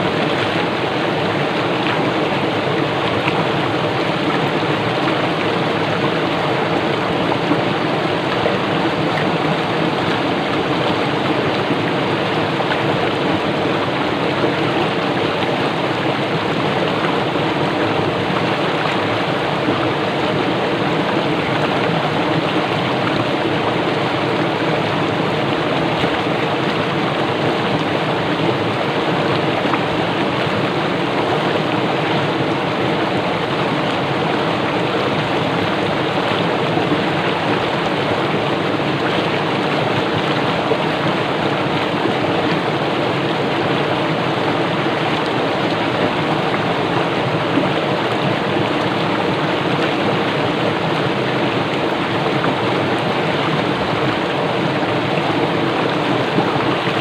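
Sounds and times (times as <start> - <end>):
stream water rushing over rocks: 0.0 - 57.0.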